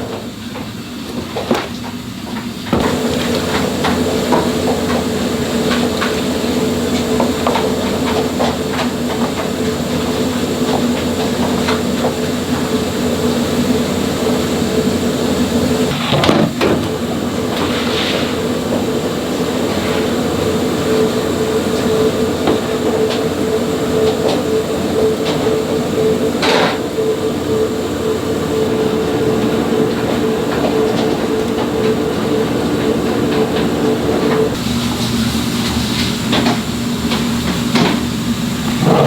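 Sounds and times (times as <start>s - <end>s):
machine humming and clattering: 0.0s - 39.0s.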